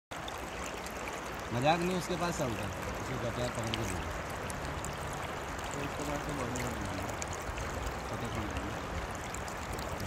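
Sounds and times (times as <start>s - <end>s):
river water babbling over stones: 0.1s - 10.0s.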